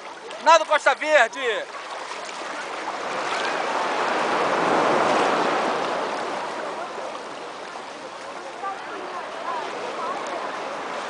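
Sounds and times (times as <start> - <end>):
sea water washing and sloshing: 0.0 - 11.0.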